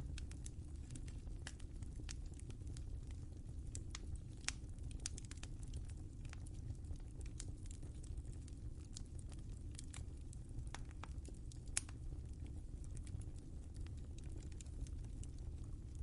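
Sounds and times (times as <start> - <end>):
low rumble of burning fire: 0.0 - 16.0
wood fire pops and snaps: 0.0 - 16.0.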